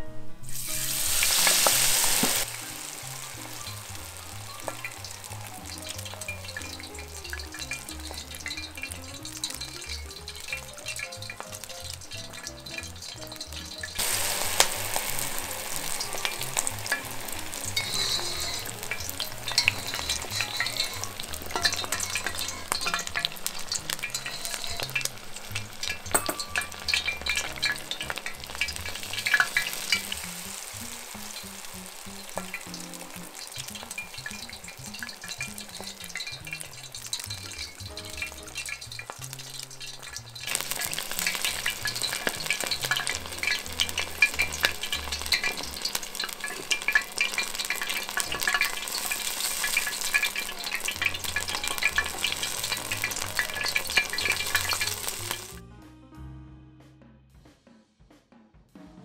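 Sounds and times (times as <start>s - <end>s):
deep-frying sizzle: 0.0s - 55.6s.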